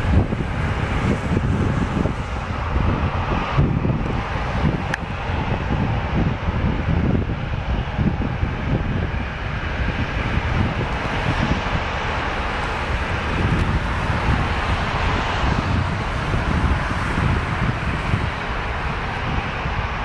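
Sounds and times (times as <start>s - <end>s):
jet engines roaring: 0.0s - 20.0s
wind buffeting microphone: 0.0s - 20.0s.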